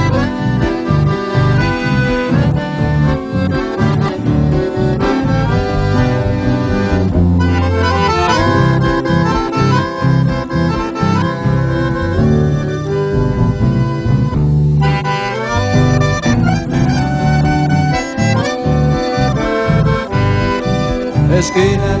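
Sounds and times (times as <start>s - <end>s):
accordion melody: 0.0s - 22.0s
pulsing bass line: 0.0s - 22.0s.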